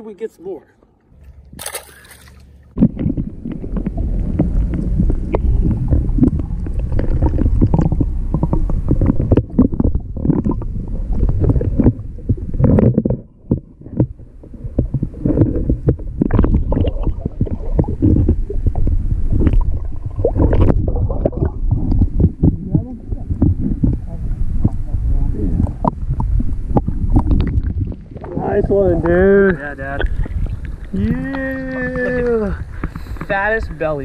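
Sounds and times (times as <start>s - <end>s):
wind buffeting microphone: 2.7s - 34.0s.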